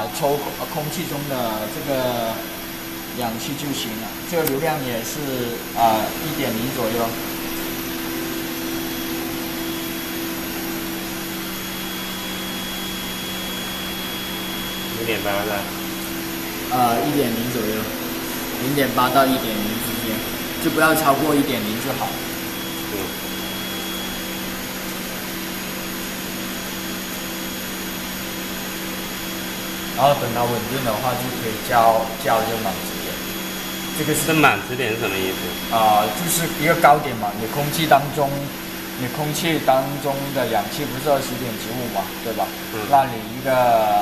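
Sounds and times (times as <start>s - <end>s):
faint high whine: 0.0s - 44.0s
pump and fan humming: 0.0s - 44.0s.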